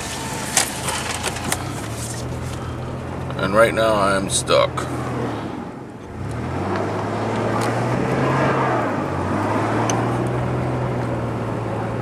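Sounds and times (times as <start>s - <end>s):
vehicle engine running under load: 0.0s - 12.0s.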